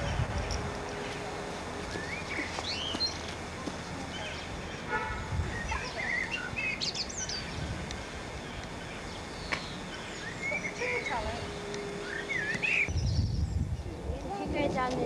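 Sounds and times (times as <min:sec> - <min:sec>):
songbirds chirping and singing: 0:00.0 - 0:14.2
steady outdoor background hiss: 0:00.0 - 0:15.0.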